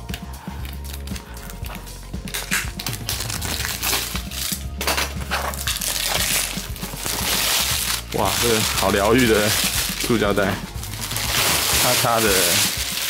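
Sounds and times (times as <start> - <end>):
plastic film crackling: 0.0 - 13.0.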